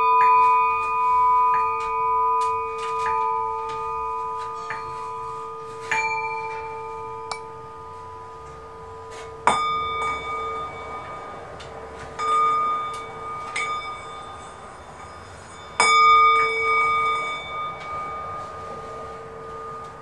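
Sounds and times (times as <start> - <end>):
struck bells ringing: 0.0 - 20.0.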